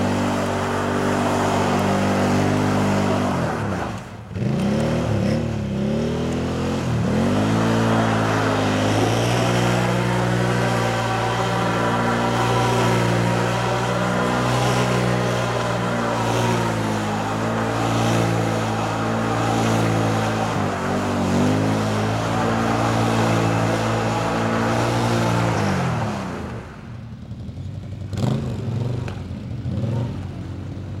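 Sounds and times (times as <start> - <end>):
atv engine revving high: 0.0 - 26.8.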